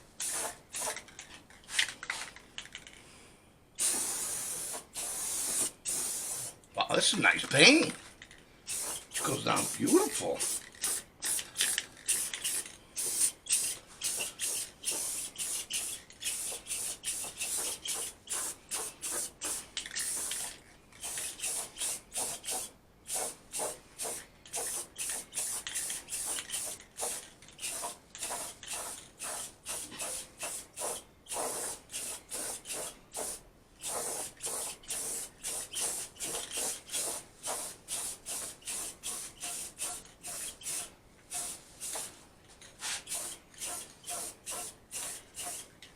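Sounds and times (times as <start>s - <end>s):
spray paint hissing in short bursts: 0.2s - 2.3s, 3.8s - 6.6s, 8.7s - 45.8s.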